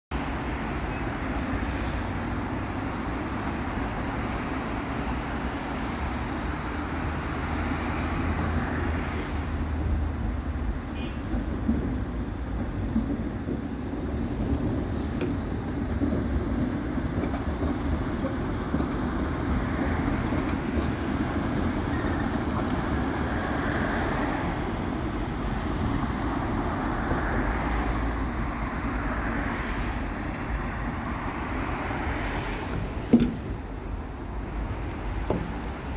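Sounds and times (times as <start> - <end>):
cars passing: 0.1 - 35.9
tram passing on rails: 0.1 - 35.9.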